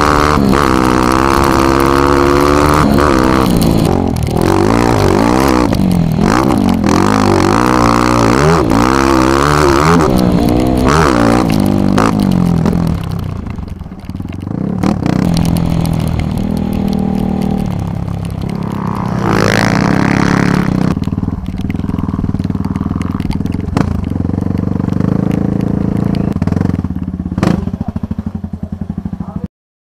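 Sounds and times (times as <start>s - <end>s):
dirt bike engine running: 0.0s - 29.5s.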